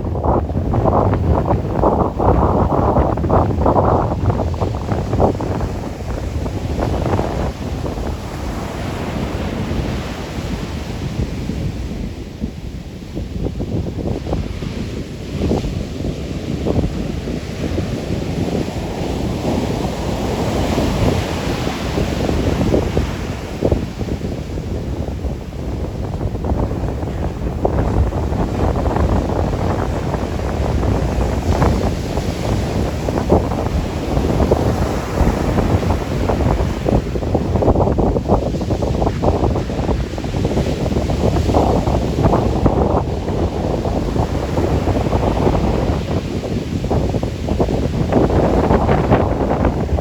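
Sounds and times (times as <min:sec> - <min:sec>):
ocean surf breaking on rocks: 0:00.0 - 0:12.8, 0:13.4 - 0:50.0
wind buffeting microphone: 0:00.0 - 0:50.0.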